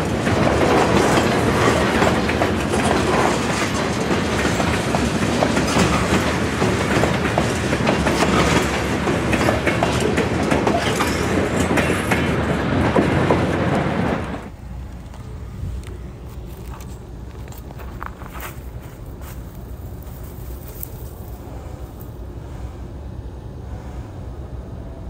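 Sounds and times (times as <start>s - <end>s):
wheels clicking over rail joints: 0.0s - 23.1s
freight train rolling past: 0.0s - 25.0s.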